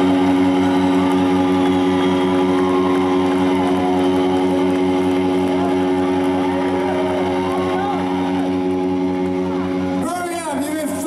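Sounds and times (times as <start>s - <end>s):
bending guitar notes: 0.0s - 11.0s.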